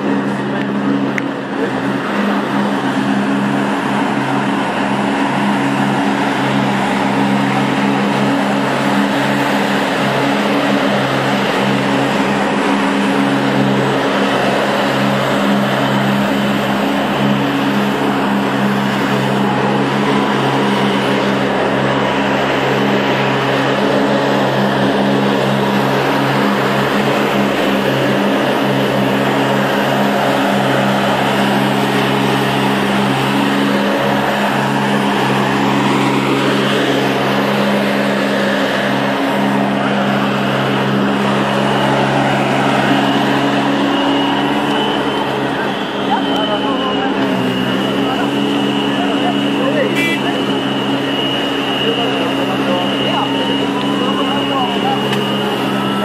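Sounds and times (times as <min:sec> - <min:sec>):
floor-cleaning machine humming: 0:00.0 - 0:56.0.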